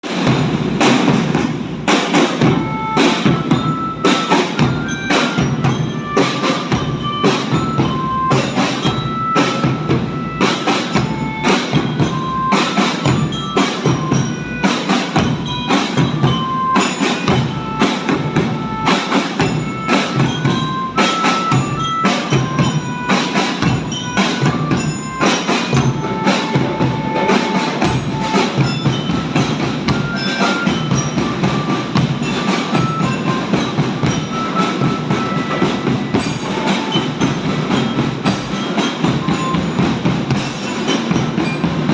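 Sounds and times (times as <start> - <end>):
glockenspiel melody: 0.0 - 41.9
marching drums: 0.0 - 41.9.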